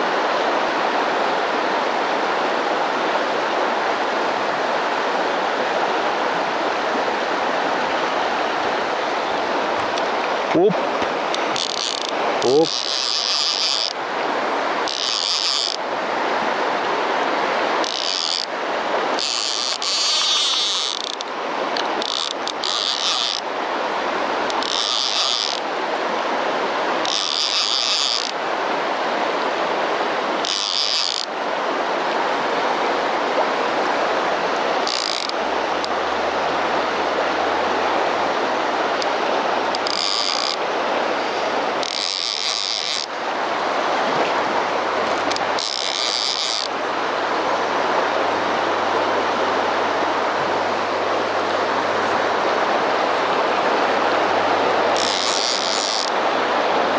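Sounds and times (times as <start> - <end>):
river rushing: 0.0 - 56.9.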